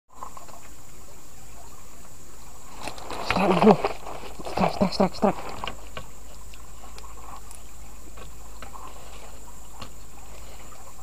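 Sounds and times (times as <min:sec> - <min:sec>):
low background hum: 0:00.1 - 0:11.0.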